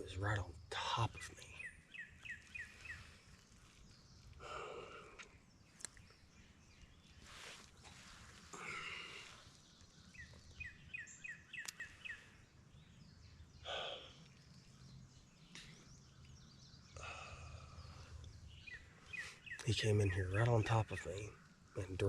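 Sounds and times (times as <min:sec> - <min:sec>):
faint outdoor ambience: 0:00.0 - 0:22.0
songbird chirping: 0:00.0 - 0:22.0.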